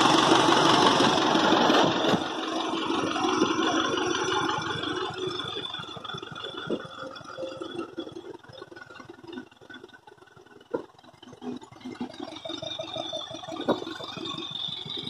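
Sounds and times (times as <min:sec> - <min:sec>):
tractor engine clattering: 0:00.0 - 0:15.0.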